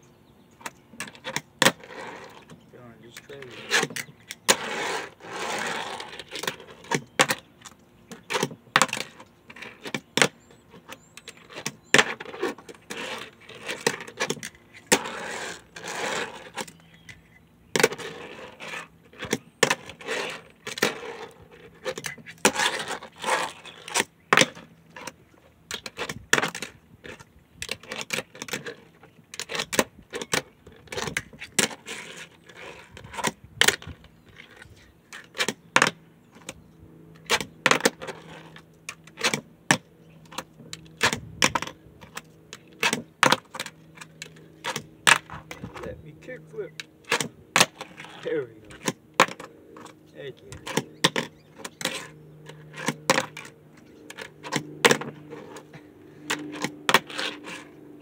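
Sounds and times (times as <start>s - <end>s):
small wheels rolling: 0.2s - 58.0s.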